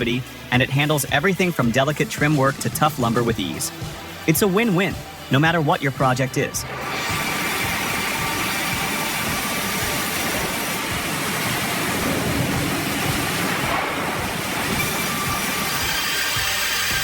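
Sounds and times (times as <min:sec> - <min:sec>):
saw running: 0:00.0 - 0:17.0.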